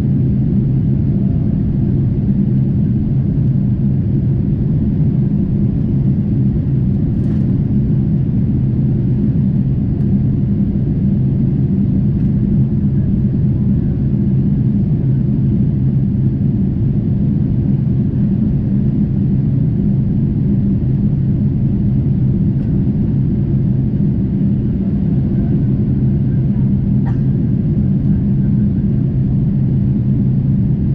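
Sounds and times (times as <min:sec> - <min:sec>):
airplane cabin drone: 0:00.0 - 0:30.9.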